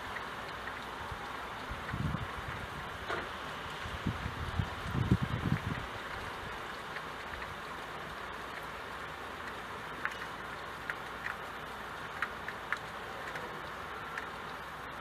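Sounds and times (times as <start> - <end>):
rain hissing: 0.0 - 15.0
raindrops ticking on window glass: 0.0 - 15.0.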